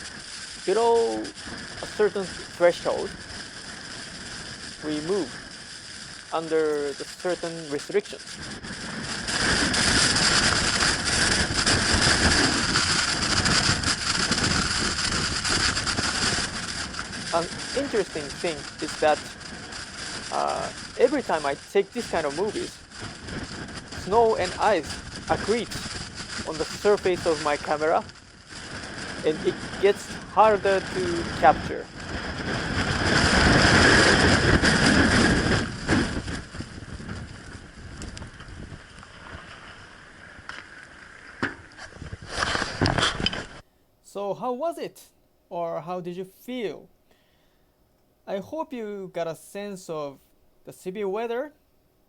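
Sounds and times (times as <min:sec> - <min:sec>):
hiss of blowing snow: 0:00.0 - 0:43.6
strong blizzard wind buffeting: 0:00.0 - 0:43.6.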